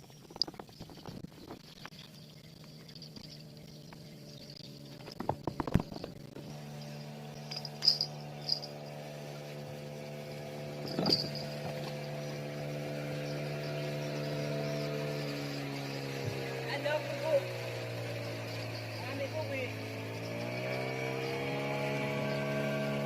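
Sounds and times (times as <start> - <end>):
insects chirring: 0.0 - 23.0
small boat engine humming: 0.0 - 23.0.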